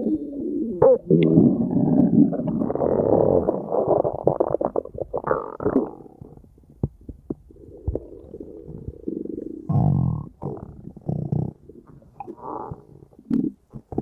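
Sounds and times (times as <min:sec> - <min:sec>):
stomach rumbling and gurgling: 0:00.0 - 0:14.0.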